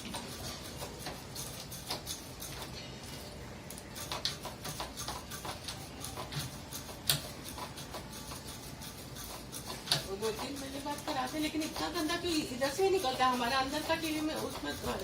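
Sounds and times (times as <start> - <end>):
tools clicking and knocking: 0.0 - 2.8, 3.7 - 13.1.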